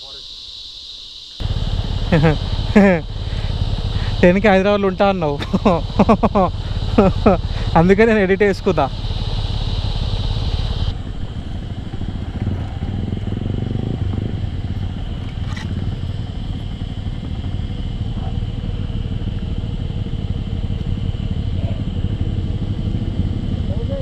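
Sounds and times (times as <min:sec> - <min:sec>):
night insects chirring: 0:00.0 - 0:24.0
motorcycle engine low rumble: 0:01.4 - 0:24.0.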